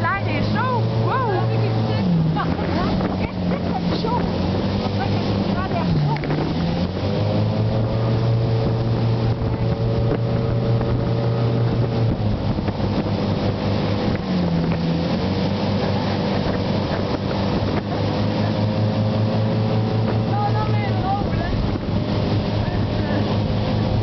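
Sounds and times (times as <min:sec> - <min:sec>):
boat wake rushing: 0:00.0 - 0:24.0
motorboat engine running: 0:00.0 - 0:24.0.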